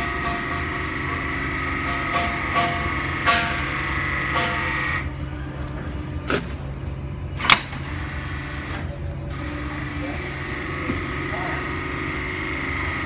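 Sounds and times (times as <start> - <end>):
high-pitched pump whine: 0.0 - 13.0
hydraulic pump droning: 0.0 - 13.0.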